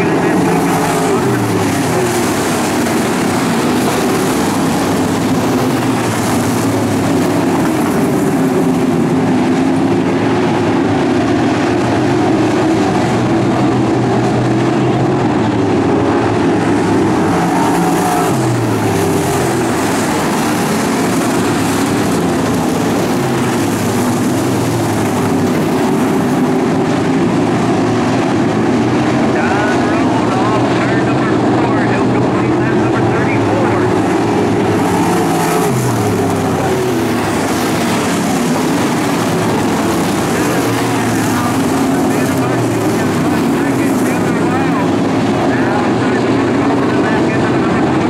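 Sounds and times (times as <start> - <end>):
race car engines droning: 0.0 - 48.0.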